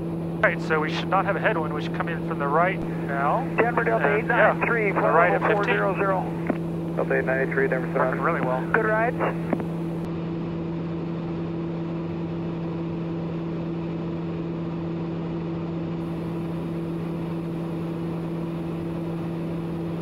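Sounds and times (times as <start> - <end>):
turboprop engine cabin drone: 0.0 - 20.0.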